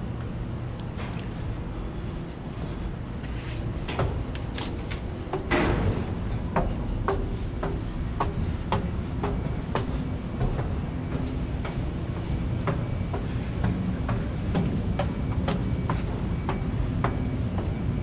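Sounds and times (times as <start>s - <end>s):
steady low rumble: 0.0s - 18.0s
footsteps on steel stairs: 1.0s - 18.0s.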